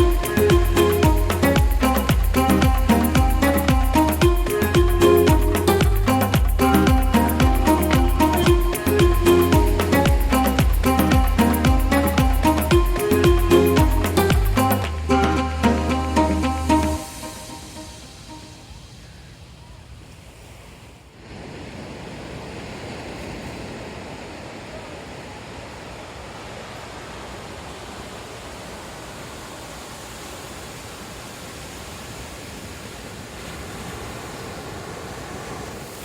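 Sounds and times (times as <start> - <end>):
sea surf washing onto beach: 0.0 - 36.0.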